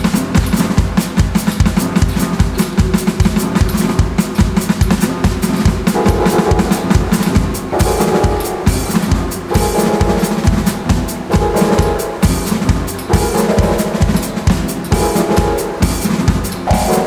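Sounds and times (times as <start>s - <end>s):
electronic drum kit playing: 0.0s - 17.0s
held synth chord: 2.4s - 17.0s.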